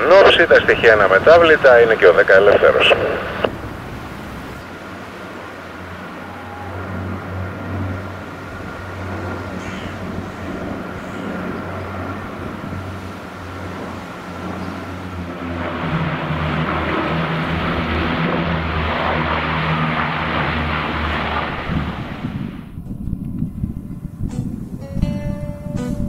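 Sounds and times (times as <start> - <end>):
propeller airplane flying overhead: 0.0 - 25.0.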